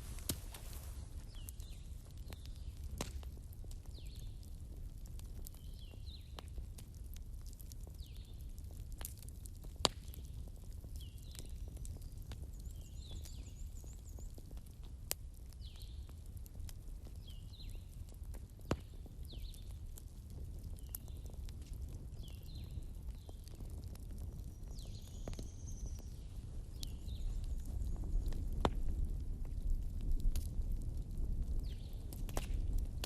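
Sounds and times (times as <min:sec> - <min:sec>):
bonfire crackling: 0:00.0 - 0:33.0
low rumble of flames: 0:00.0 - 0:33.0
sharp pops from fire: 0:00.0 - 0:33.0.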